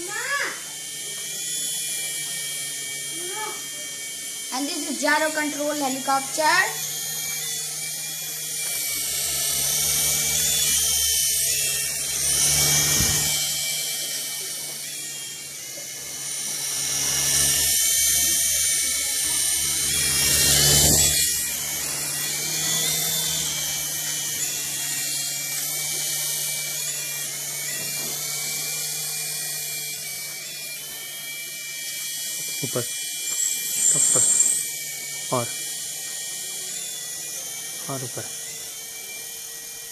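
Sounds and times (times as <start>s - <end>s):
toy helicopter rotor whirring: 0.0s - 39.9s.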